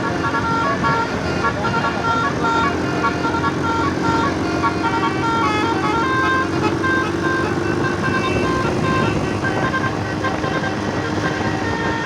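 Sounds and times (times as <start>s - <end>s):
bus horn tooting melody: 0.0s - 12.0s
vehicle noise: 0.0s - 12.0s.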